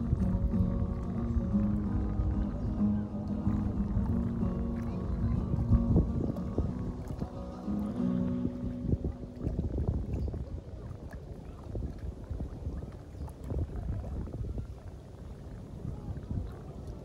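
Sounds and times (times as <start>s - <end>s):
small waves lapping against stone: 0.0s - 17.0s
wind rumble on microphone: 0.0s - 17.0s.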